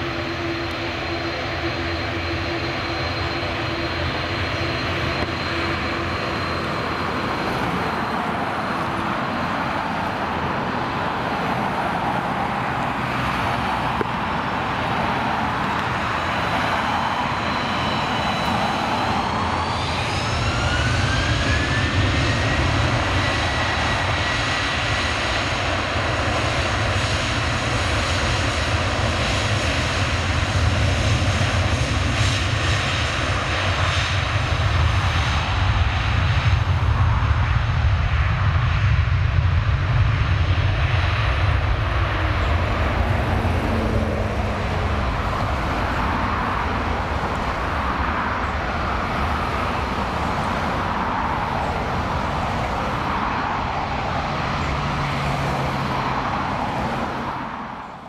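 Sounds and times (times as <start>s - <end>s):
jet engines spooling up: 0.0s - 57.7s.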